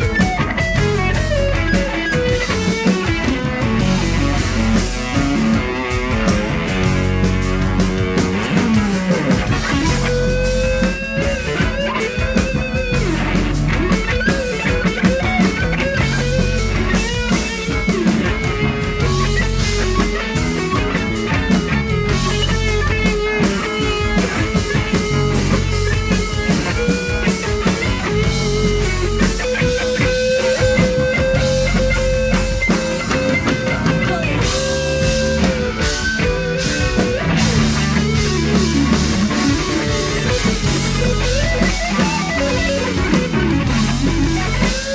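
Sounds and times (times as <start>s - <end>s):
electric guitar solo: 0.0s - 44.9s
funk band playing: 0.0s - 44.9s.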